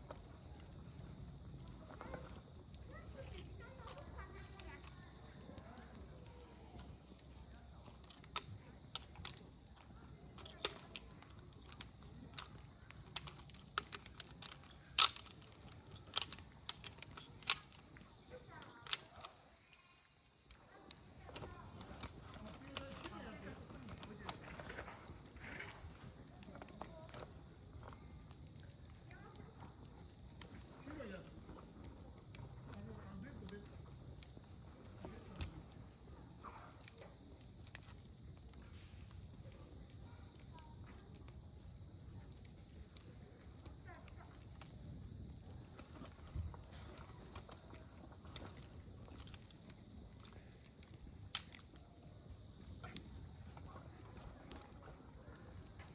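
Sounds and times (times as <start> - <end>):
campfire crackling: 0.0 - 55.9
insects chirping: 0.0 - 55.9.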